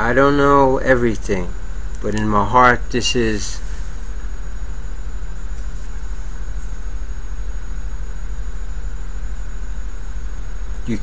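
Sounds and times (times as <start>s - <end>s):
steady low machine hum: 0.0s - 11.0s.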